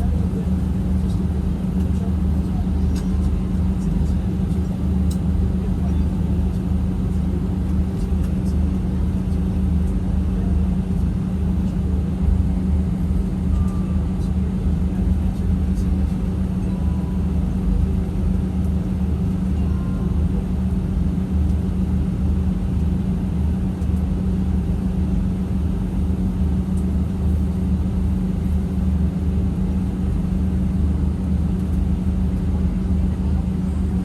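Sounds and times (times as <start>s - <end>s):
jet engines idling: 0.0s - 34.0s.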